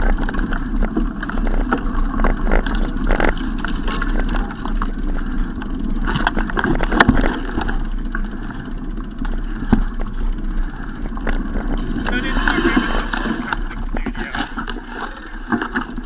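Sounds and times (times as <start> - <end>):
wind and road noise rumble: 0.0 - 16.0.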